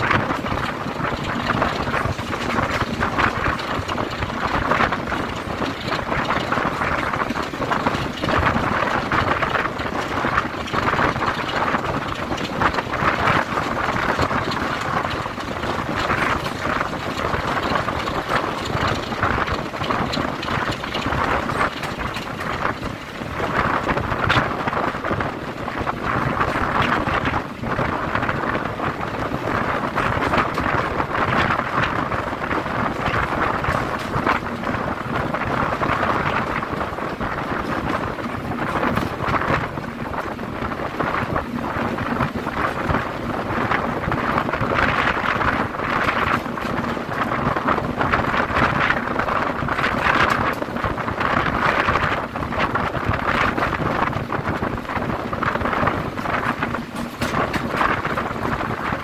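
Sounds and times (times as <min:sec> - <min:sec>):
diesel locomotive running: 0:00.0 - 0:59.0
train wheels on rails: 0:00.0 - 0:59.0
wind buffeting microphone: 0:00.0 - 0:59.0.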